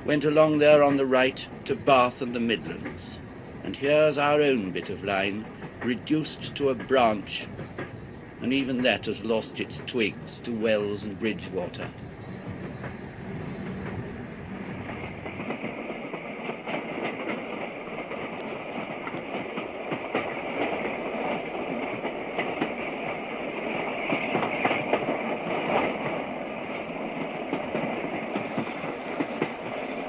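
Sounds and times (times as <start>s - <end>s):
train rattle and rumble: 0.0s - 30.0s
train wheels clicking over rail joints: 0.2s - 30.0s.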